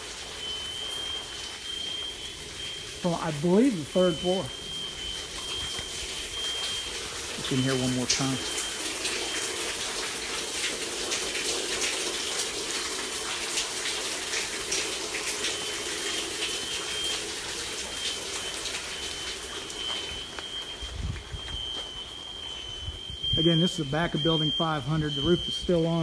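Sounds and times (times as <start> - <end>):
fire alarm high tone: 0.0 - 10.7, 14.6 - 26.0
water running and dripping: 0.0 - 26.0.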